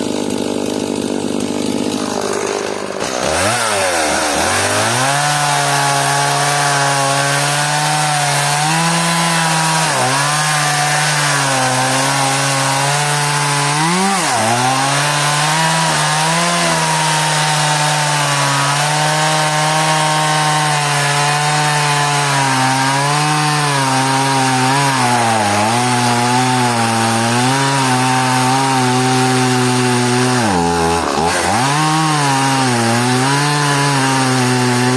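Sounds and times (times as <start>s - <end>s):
chainsaw revving and cutting wood: 0.0s - 34.9s.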